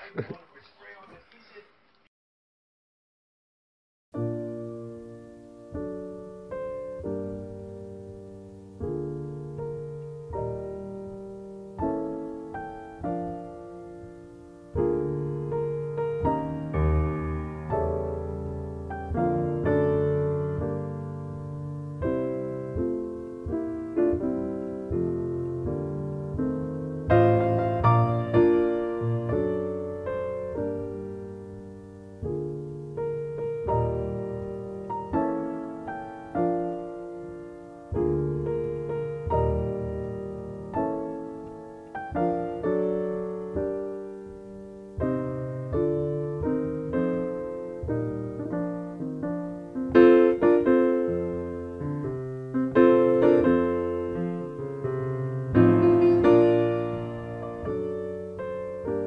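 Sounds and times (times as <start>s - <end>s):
slow solo piano music: 4.2s - 59.0s.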